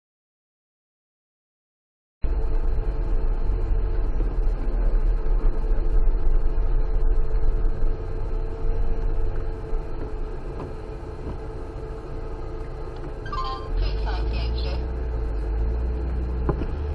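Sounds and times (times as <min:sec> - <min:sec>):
car engine and tyres rumbling: 0:02.2 - 0:16.9.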